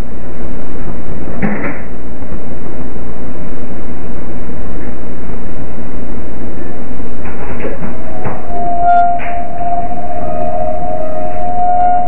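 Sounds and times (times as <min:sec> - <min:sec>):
loud steady microphone hiss: 0:00.0 - 0:12.0.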